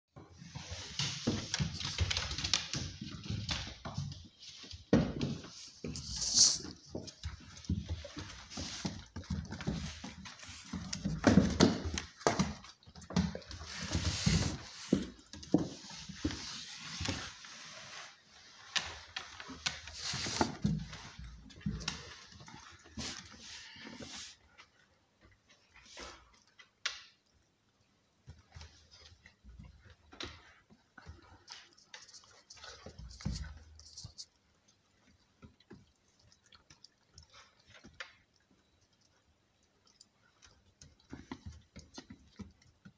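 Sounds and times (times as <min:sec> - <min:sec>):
puppies' paws on wooden floor: 0:00.1 - 0:42.9.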